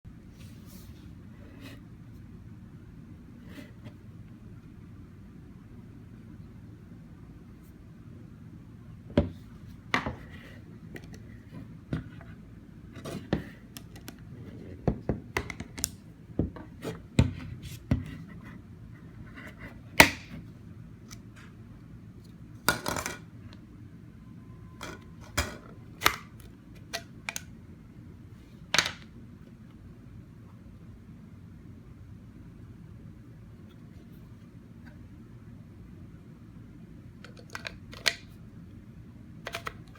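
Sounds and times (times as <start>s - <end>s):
steady low hum: 0.1s - 39.9s.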